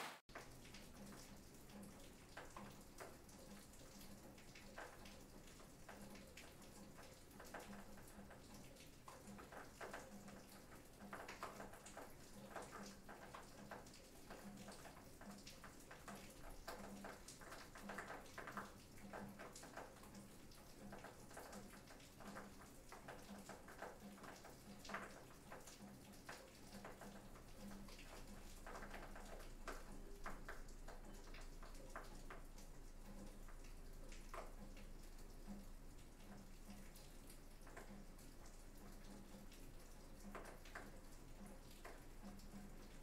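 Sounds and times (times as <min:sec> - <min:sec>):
rain on a metal roof: 0:00.0 - 0:43.0.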